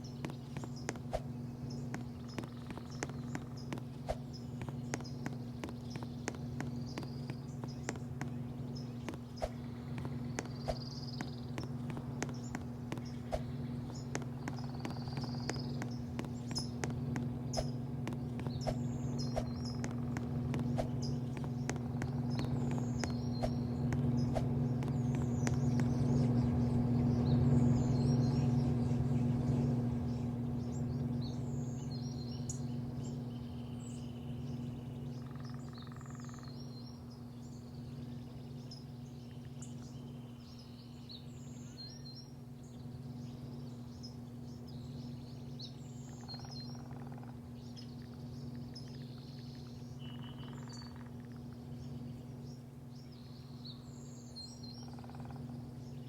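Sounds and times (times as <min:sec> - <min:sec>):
low mechanical hum: 0:00.0 - 0:56.0
small birds chirping: 0:00.0 - 0:56.0.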